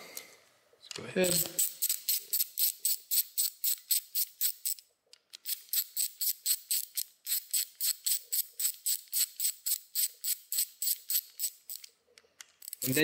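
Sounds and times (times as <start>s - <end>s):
hand ratchet clicking: 1.3s - 11.9s, 12.6s - 13.0s.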